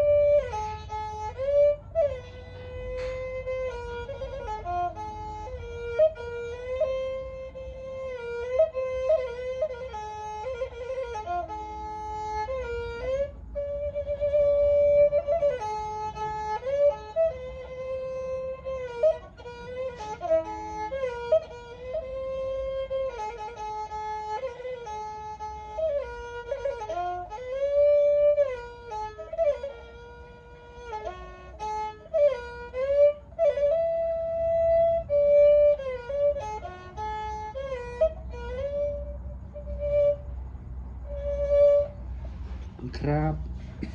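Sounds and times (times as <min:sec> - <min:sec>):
bowed fiddle melody: 0:00.0 - 0:43.9.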